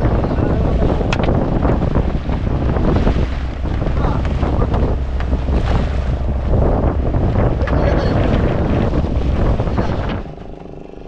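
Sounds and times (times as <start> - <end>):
water rushing along boat hull: 0.0 - 11.0
wind blasting microphone: 0.0 - 11.0.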